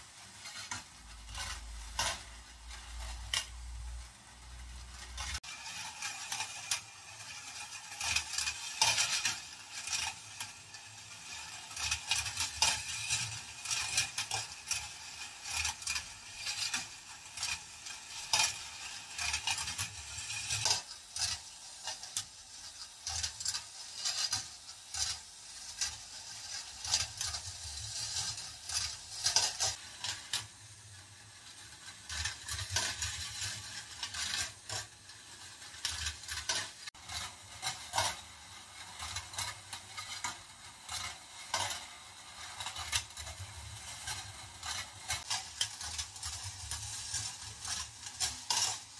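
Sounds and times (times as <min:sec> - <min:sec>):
steel balls rolling on wire tracks: 0:00.0 - 0:48.9.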